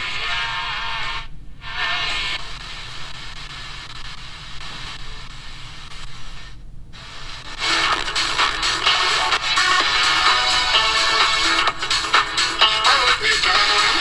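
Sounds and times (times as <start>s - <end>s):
music from radio station: 0.0s - 14.0s
radio static hiss: 0.0s - 14.0s.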